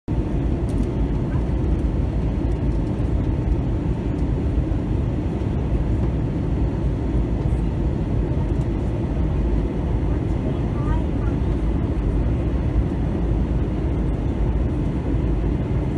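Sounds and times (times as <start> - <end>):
aircraft cabin engine and airflow noise: 0.1 - 15.9.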